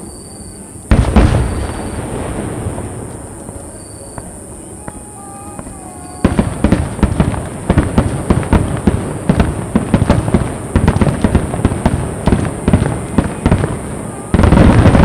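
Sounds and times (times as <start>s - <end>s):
fireworks bangs: 0.9s - 15.0s.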